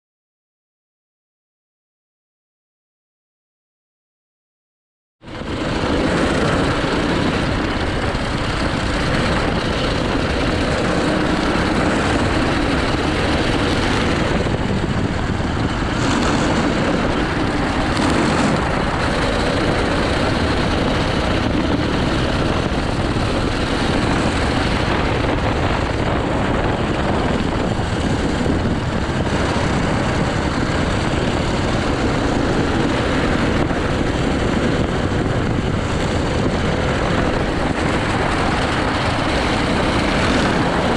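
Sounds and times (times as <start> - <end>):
go-kart engine running hard: 5.2 - 40.9.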